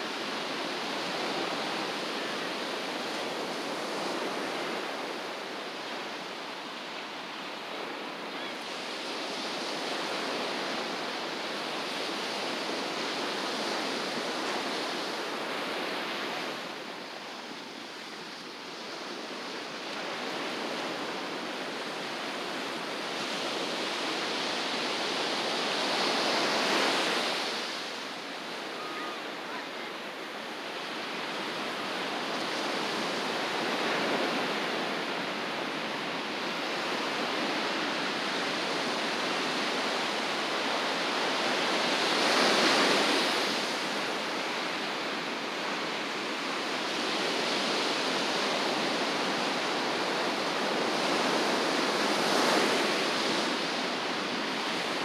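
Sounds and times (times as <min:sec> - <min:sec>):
ocean surf on a beach: 0:00.0 - 0:55.0.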